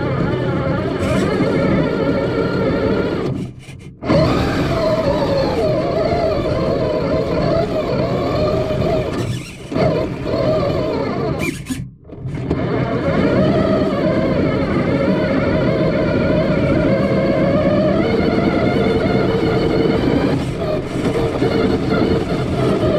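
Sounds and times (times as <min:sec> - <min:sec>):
drone propellers whining: 0:00.0 - 0:22.9.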